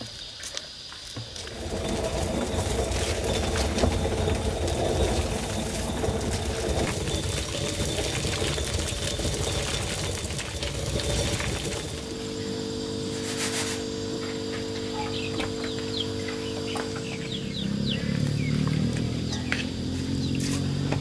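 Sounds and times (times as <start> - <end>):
steady hum: 1.2 - 21.0
stone quern grinding corn: 1.2 - 21.0.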